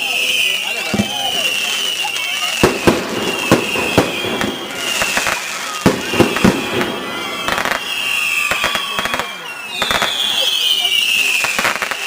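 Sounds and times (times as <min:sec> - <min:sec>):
firework crackling: 0:00.0 - 0:12.0
firework whistling: 0:00.0 - 0:12.0
firework bangs: 0:00.1 - 0:12.0.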